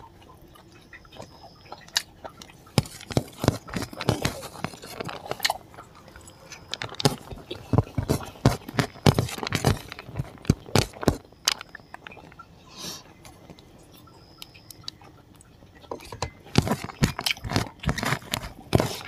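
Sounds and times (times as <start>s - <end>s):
chewing and lip smacking: 0.0s - 19.0s.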